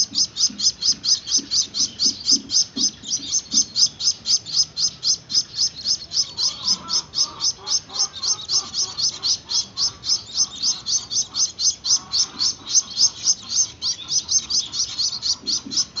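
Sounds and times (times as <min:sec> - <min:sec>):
finch chicks begging chirps: 0:00.0 - 0:16.0.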